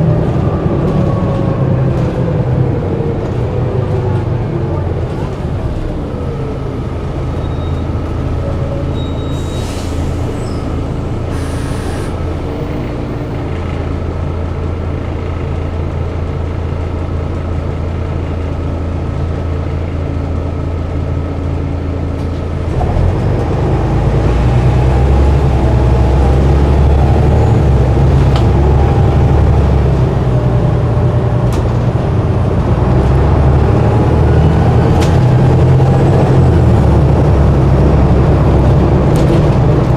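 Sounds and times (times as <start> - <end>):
diesel bus engine: 0.0 - 39.9.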